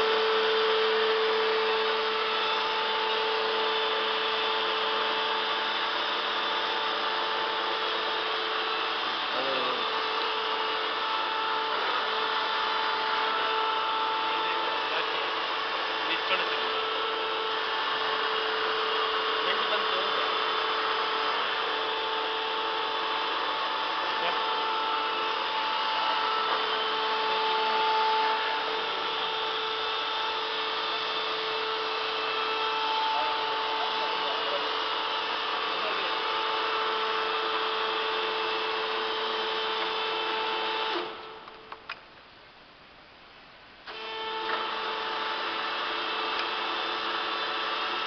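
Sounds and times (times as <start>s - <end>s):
lathe humming and whining: 0.0s - 48.0s.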